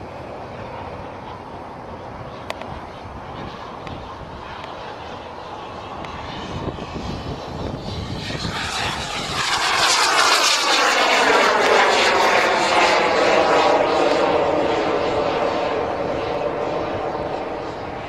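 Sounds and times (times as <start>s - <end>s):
jet turbine roar and whine: 0.0s - 18.0s.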